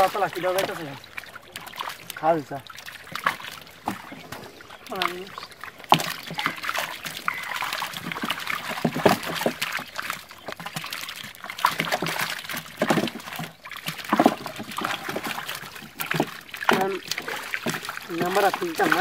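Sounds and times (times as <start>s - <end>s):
fish thrashing in a net: 0.0s - 19.0s
water splashing and trickling: 0.0s - 19.0s.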